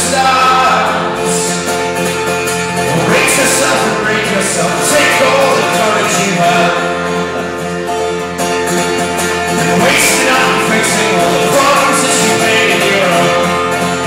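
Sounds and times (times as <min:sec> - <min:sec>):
person singing: 0:00.0 - 0:07.8, 0:09.3 - 0:14.0
folk-rock band playing live: 0:00.0 - 0:14.0
strummed acoustic guitar: 0:00.0 - 0:14.0.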